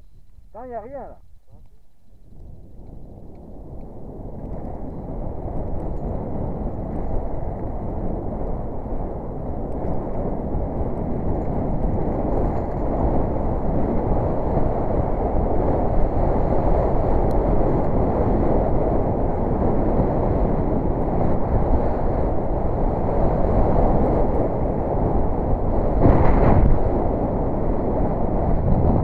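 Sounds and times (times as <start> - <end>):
wind rumble on microphone: 0.0 - 29.0.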